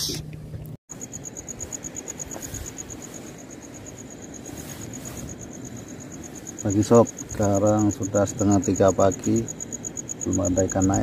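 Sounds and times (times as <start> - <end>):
cricket chirping: 0.9 - 11.0.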